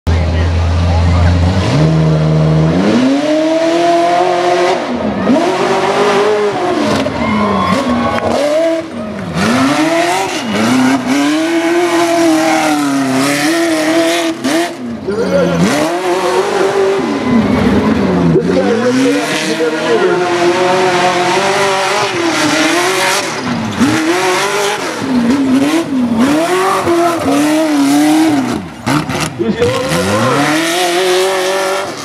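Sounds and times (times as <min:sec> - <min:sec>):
pickup truck engine revving: 0:00.1 - 0:32.0.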